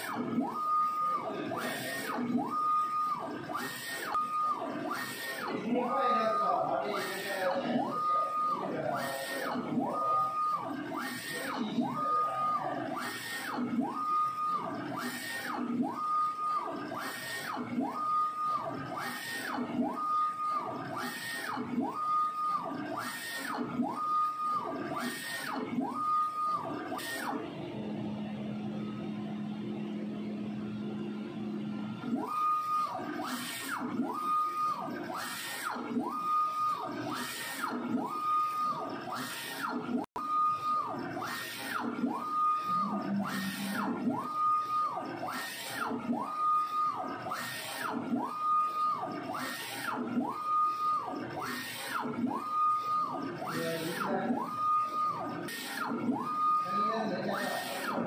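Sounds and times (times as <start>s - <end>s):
printer carriage motor whine: 0.0s - 58.0s.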